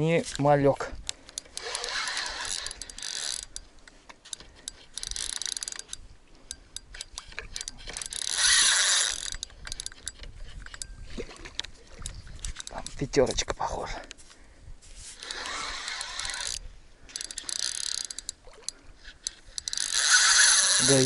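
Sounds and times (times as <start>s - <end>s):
fishing reel gears whirring and clicking: 1.0s - 13.0s, 15.2s - 21.0s.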